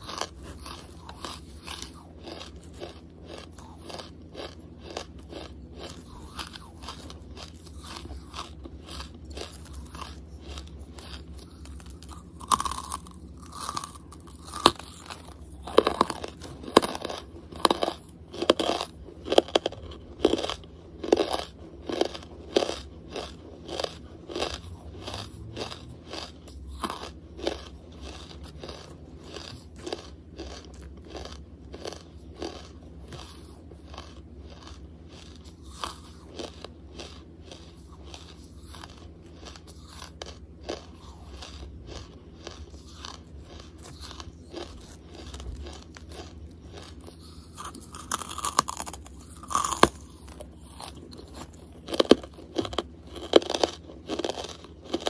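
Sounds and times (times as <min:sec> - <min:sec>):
person crunching charcoal: 0:00.0 - 0:55.0.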